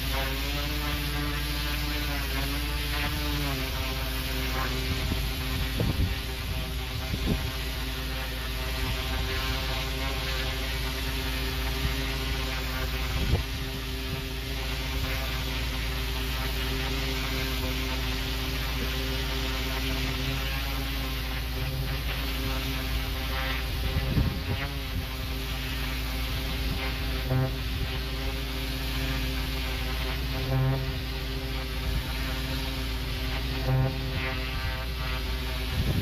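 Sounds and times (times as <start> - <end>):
pressure washer spraying water: 0.0 - 36.0.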